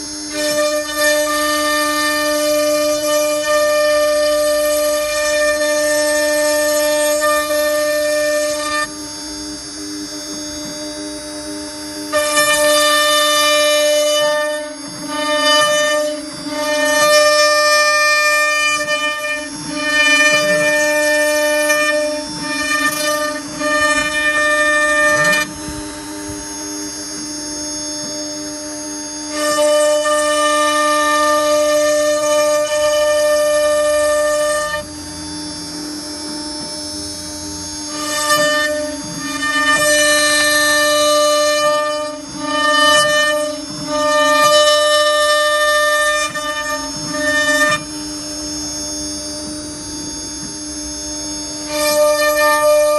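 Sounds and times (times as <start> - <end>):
router bit cutting wood: 0.0 - 52.9
router spindle whining: 0.0 - 52.9.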